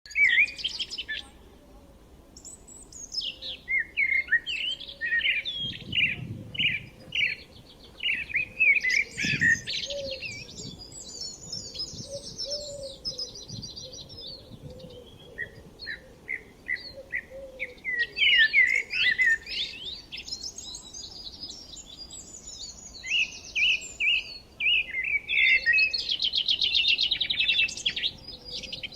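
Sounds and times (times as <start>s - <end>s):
birds chirping and singing: 0.0s - 1.4s, 2.4s - 28.9s.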